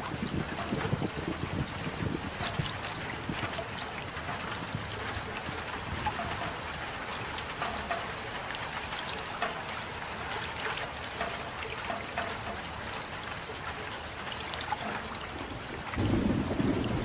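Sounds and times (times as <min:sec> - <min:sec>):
drops plinking and dripping: 0:00.0 - 0:17.0
steady rain falling: 0:00.0 - 0:17.0.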